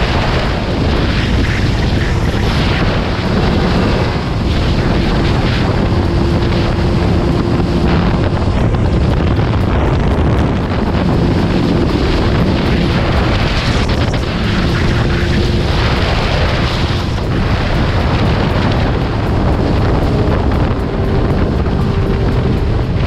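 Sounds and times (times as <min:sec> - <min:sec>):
motorcycle engine and exhaust: 0:00.0 - 0:23.0
wind buffeting microphone: 0:00.0 - 0:23.0.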